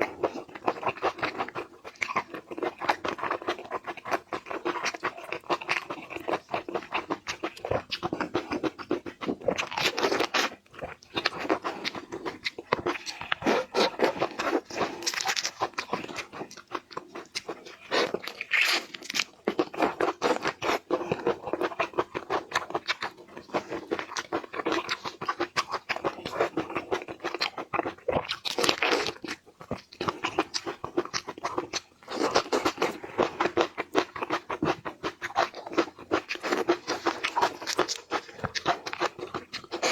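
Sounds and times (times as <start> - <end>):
crunching and chewing seafood: 0.0 - 39.9.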